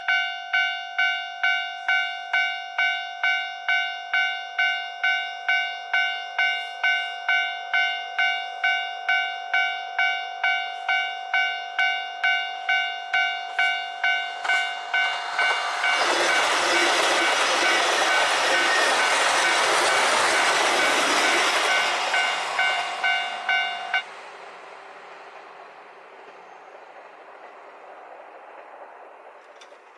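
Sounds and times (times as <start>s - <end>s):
level crossing warning bell: 0.0s - 24.1s
diesel train passing: 1.8s - 29.9s.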